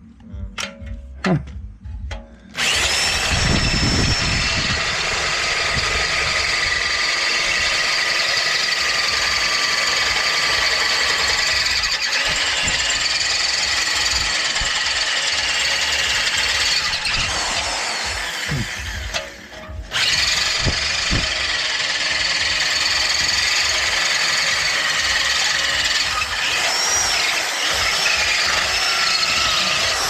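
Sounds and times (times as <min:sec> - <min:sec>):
power drill grinding into metal: 0:02.5 - 0:30.0.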